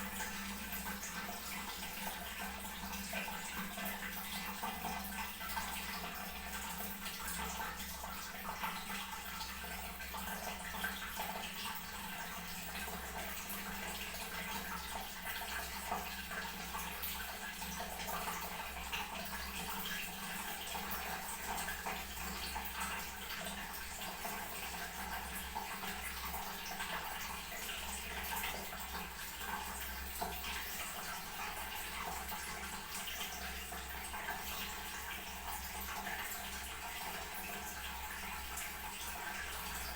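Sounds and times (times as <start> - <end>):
toilet tank refilling: 0.0 - 39.9.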